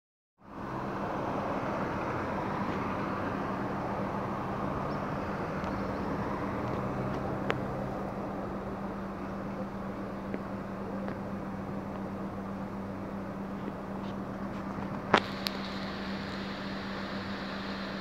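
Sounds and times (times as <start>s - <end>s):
car engine idling: 0.7s - 18.0s.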